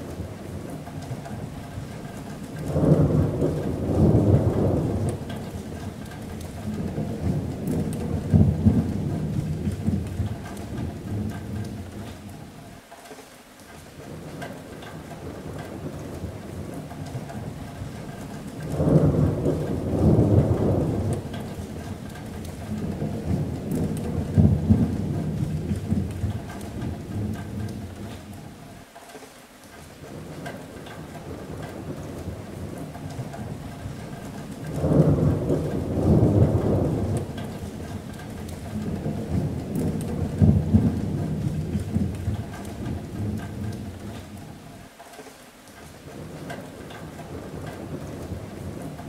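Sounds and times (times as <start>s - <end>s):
thunder rumbling: 0.0s - 12.6s, 14.0s - 28.6s, 30.1s - 44.8s, 46.0s - 49.0s
rain on a metal roof: 0.0s - 49.0s.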